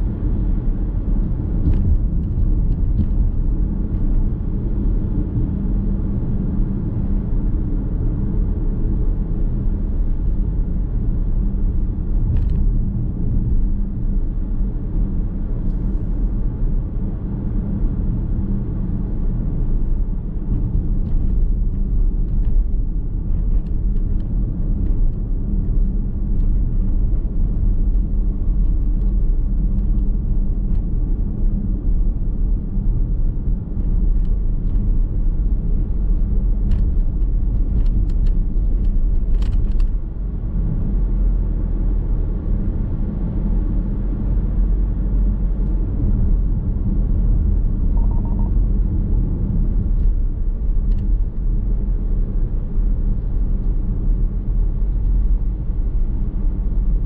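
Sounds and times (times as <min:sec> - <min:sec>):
car driving interior rumble: 0:00.0 - 0:57.0.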